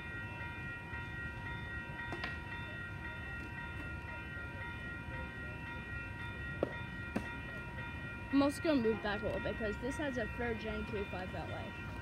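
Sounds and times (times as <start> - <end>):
railroad warning bell ringing: 0.0 - 12.0.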